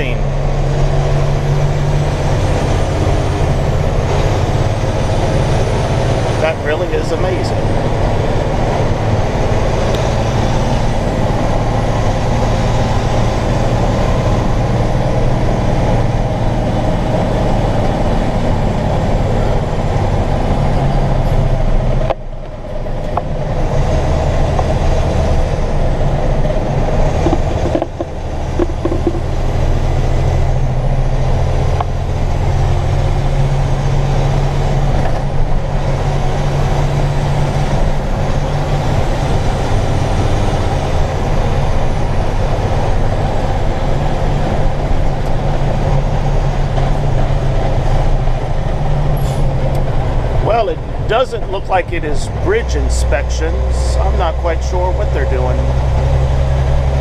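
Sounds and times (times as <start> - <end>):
road noise: 0.0 - 57.0
truck engine running: 0.0 - 57.0.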